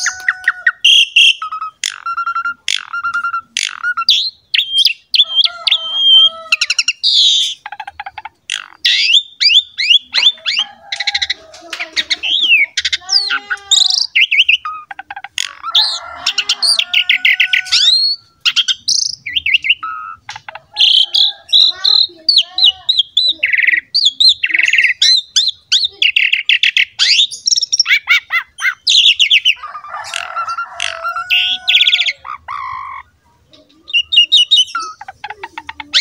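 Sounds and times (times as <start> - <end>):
starling singing: 0.0 - 36.0.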